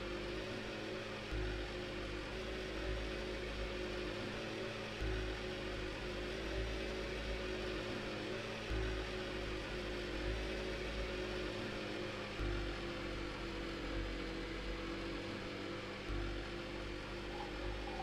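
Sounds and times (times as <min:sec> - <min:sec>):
held low drone tones: 0:00.0 - 0:18.0.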